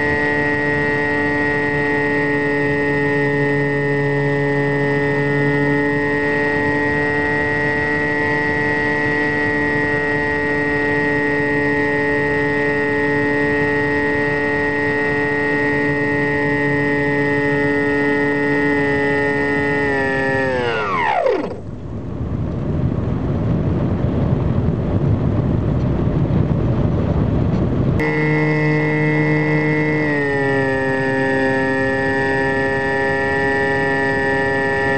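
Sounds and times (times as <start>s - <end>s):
model airplane motor whine: 0.0s - 21.9s, 28.0s - 34.9s
wind rushing past plane: 0.0s - 34.9s.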